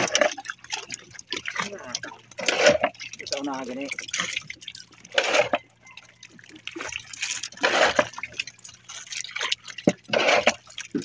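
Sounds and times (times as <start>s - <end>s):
fish thrashing at water surface: 0.0s - 11.0s
water splashing and dripping: 0.0s - 11.0s.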